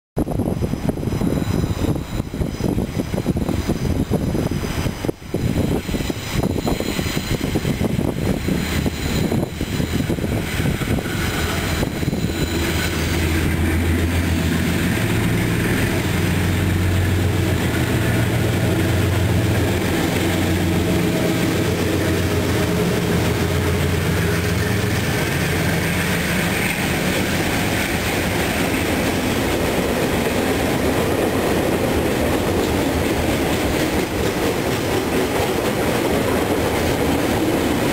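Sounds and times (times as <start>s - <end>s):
diesel locomotive engine drone: 0.2s - 37.9s.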